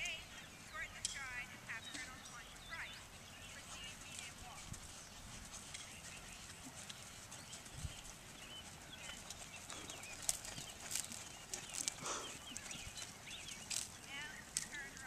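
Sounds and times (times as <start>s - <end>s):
birds chirping: 0.0s - 15.0s
horse hoofbeats on sand: 1.4s - 15.0s.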